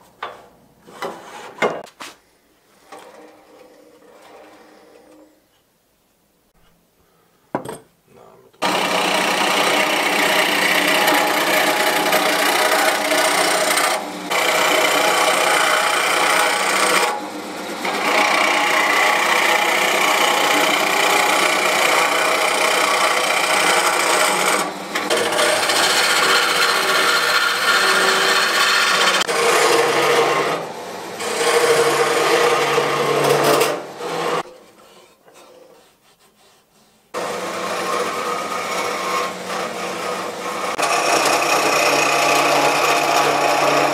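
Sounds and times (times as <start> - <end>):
lathe tool scraping wood: 8.6 - 43.9.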